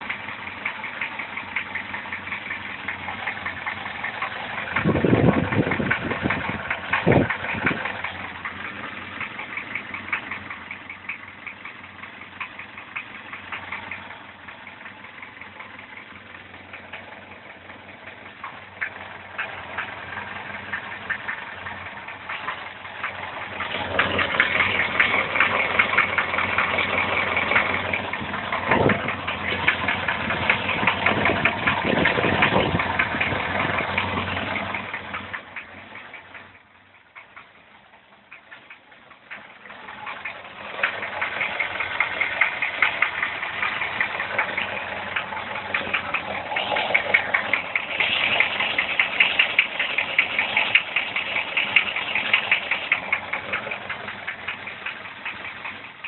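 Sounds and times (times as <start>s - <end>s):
car engine running: 0.0s - 56.0s
rapid knocking and clanking: 0.0s - 56.0s.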